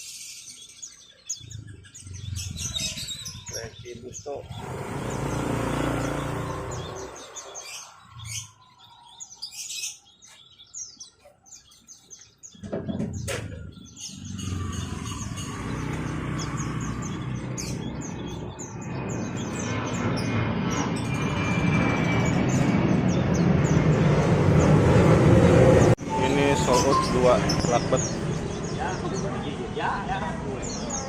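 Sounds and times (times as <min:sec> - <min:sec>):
small songbirds chirping: 0:00.0 - 0:31.0.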